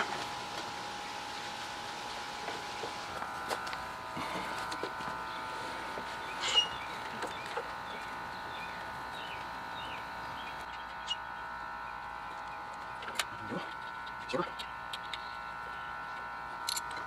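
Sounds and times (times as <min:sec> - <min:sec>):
steady hum: 0:00.0 - 0:17.0
birds chirping: 0:00.8 - 0:16.7.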